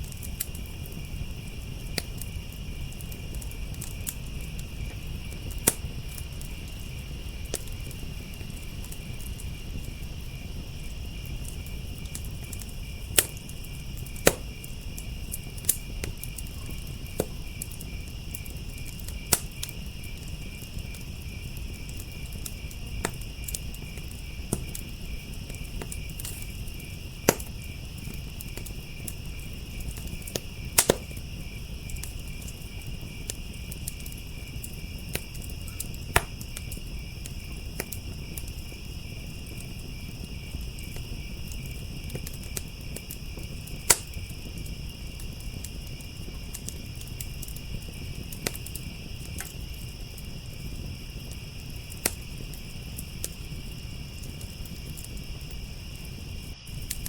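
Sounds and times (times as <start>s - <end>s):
crickets chirping: 0.0s - 57.0s
wood fire crackling and popping: 0.0s - 57.0s.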